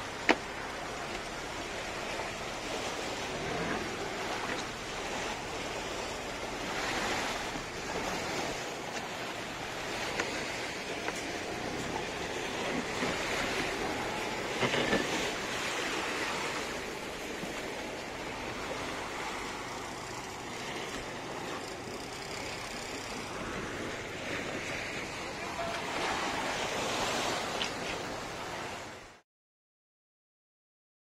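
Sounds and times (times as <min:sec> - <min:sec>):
waves on a pebble beach: 0:00.0 - 0:29.2.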